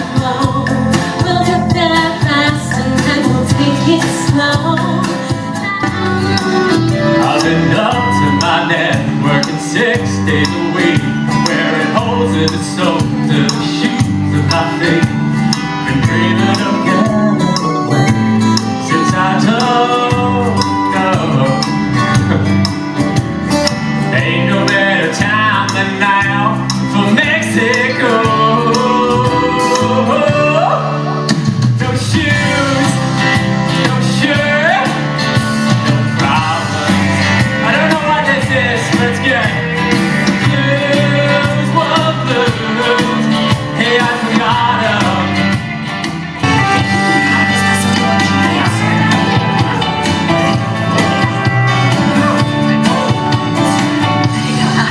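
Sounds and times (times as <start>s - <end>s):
lead singer singing: 0.0s - 22.6s, 24.0s - 54.9s
live country-rock band: 0.0s - 54.9s.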